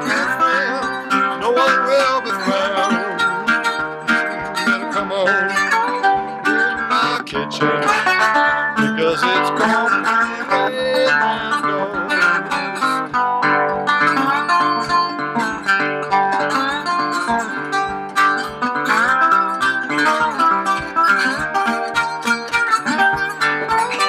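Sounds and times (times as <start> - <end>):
fingerpicked resonator guitar: 0.0 - 24.0.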